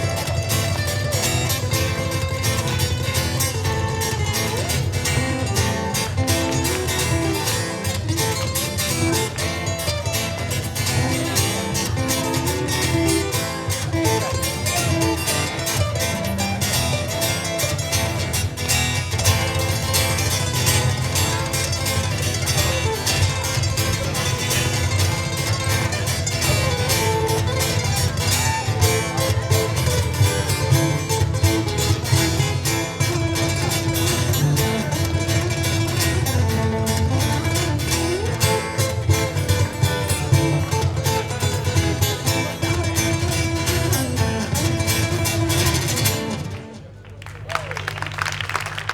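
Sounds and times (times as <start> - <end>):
ukuleles playing: 0.0 - 47.1.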